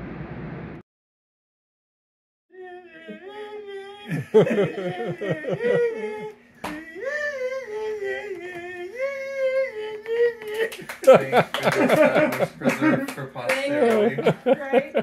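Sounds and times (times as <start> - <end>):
people laughing: 2.6 - 15.0.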